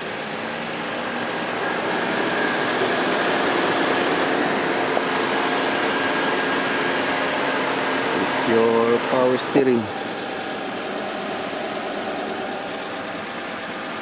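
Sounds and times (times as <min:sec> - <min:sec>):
car engine idling: 0:00.0 - 0:14.0
thin high whine: 0:00.0 - 0:14.0.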